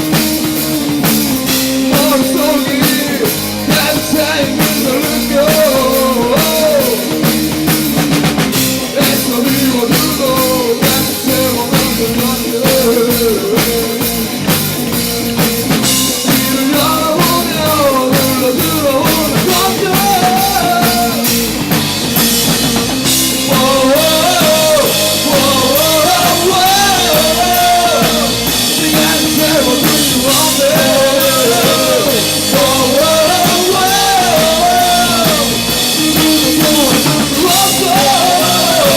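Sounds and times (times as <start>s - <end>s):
drum-kit beat: 0.0s - 38.9s
rock band playing: 0.0s - 38.9s
person singing: 1.6s - 7.2s, 8.8s - 14.0s, 16.3s - 21.3s, 23.4s - 38.9s.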